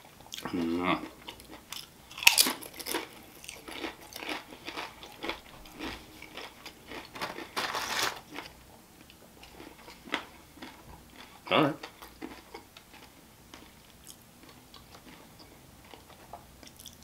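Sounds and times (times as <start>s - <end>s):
tortilla chip crunching: 0.4s - 15.2s.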